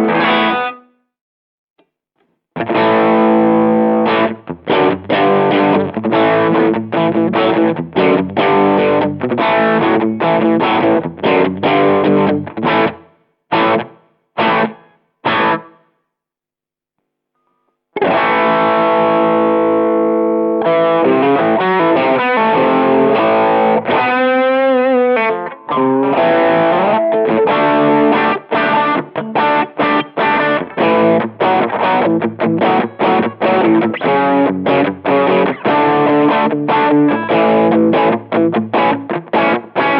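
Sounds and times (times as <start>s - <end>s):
overdriven electric guitar riff: 0.0s - 0.9s, 2.6s - 15.9s, 18.0s - 39.9s.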